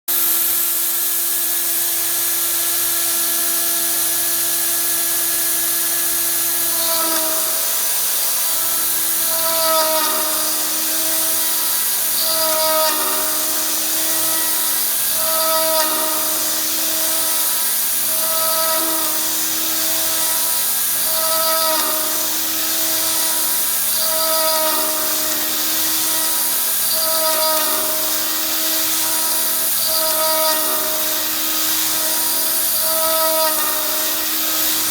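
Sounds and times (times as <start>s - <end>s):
rotary tool milling metal hiss: 0.1s - 34.9s
stepper motor whine: 0.1s - 34.9s.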